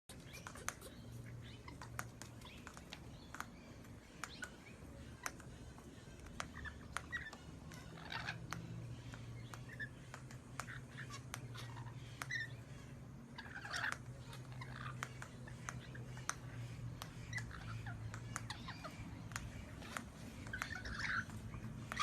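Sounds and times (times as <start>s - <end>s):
sharp clicks and taps: 0.1s - 12.5s, 13.9s - 22.0s
lovebirds chirping: 0.1s - 22.0s
low steady hum: 0.1s - 22.0s.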